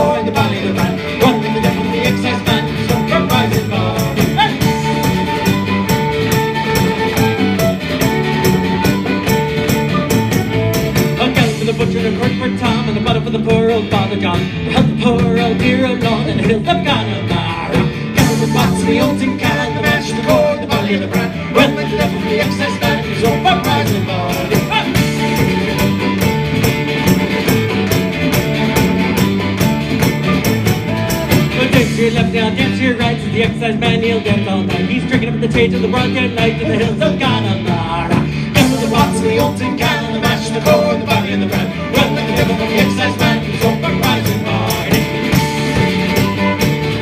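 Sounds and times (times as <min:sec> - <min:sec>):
folk band playing: 0:00.0 - 0:47.0
steady percussion: 0:00.0 - 0:47.0.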